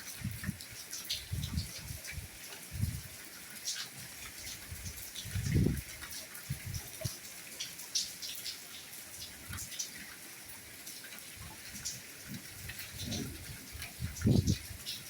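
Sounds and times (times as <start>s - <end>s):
rain hissing: 0.0s - 10.1s, 10.8s - 15.0s
raindrops ticking and dripping: 0.0s - 15.0s.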